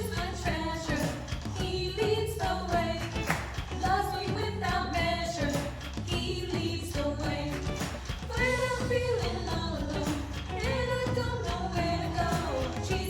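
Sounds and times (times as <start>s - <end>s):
people singing worship song: 0.0s - 13.0s.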